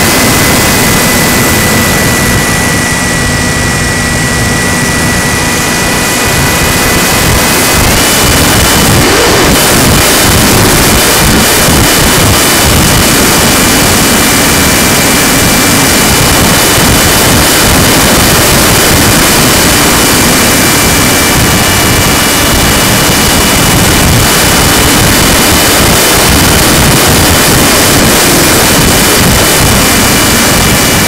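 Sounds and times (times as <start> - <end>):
model plane motor whining: 0.0 - 31.0
wind noise on microphone: 0.0 - 31.0.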